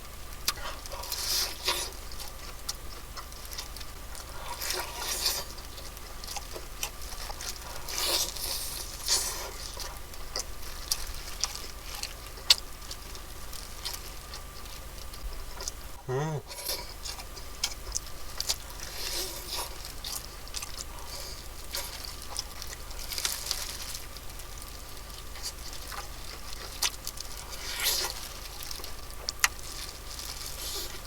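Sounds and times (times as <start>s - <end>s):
crunching and chewing fried chicken: 0.0s - 31.0s.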